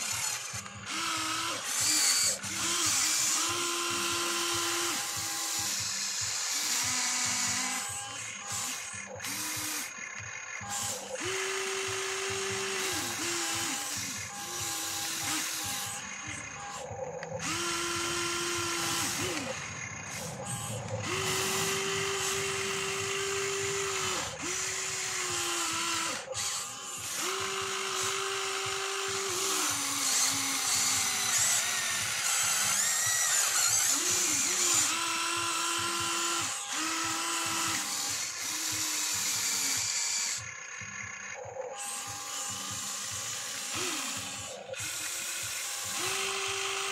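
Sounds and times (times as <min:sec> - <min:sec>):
electric motors whining: 0:00.0 - 0:46.9.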